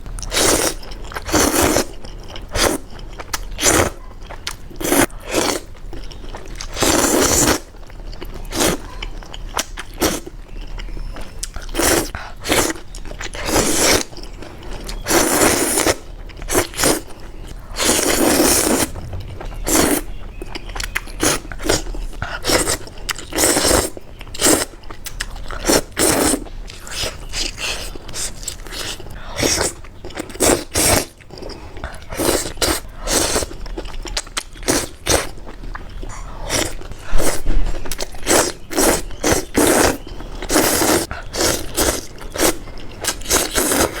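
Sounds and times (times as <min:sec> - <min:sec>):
person chewing crunchy food: 0:00.0 - 0:44.0.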